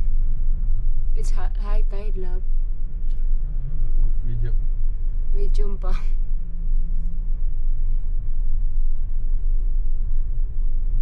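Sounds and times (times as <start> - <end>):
car driving interior rumble: 0.0 - 11.0.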